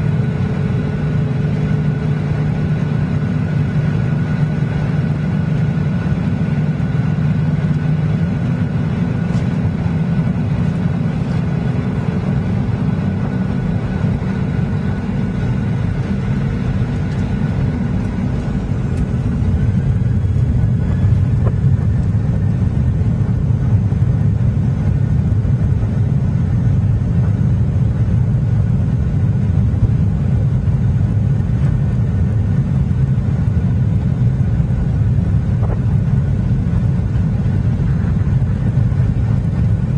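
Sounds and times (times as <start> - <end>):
faint engine whine: 0.0 - 39.9
jet engine cabin rumble: 0.0 - 39.9.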